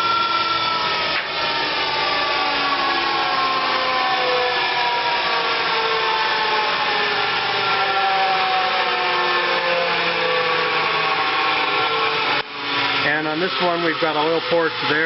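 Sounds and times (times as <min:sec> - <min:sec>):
central vacuum running: 0:00.0 - 0:15.0.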